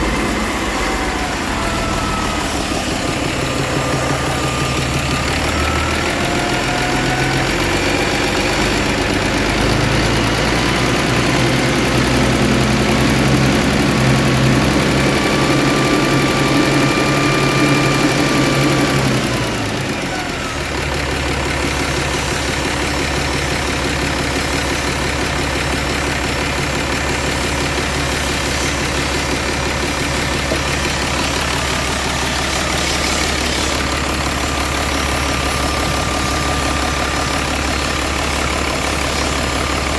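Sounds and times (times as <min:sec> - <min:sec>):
diesel engine revving and idling: 0:00.0 - 0:39.9.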